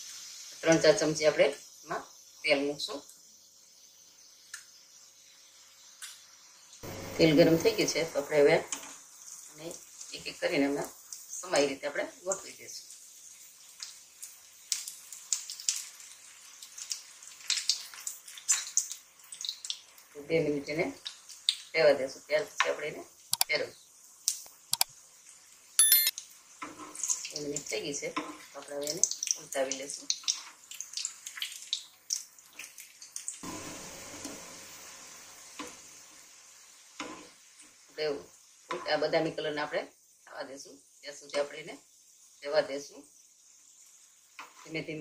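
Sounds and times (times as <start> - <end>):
oil sizzling in a frying pan: 0.0 - 45.0.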